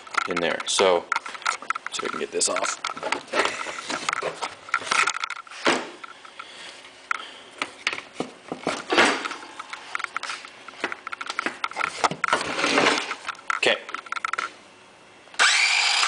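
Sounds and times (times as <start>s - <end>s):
handling clicks and knocks: 0.0s - 6.5s, 7.1s - 14.5s.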